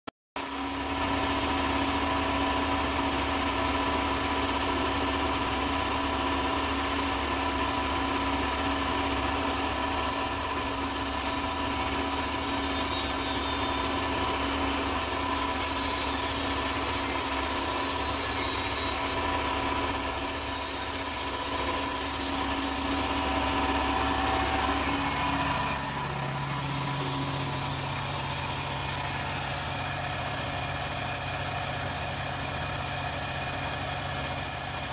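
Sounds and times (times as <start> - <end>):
truck engine droning: 0.8 - 34.9.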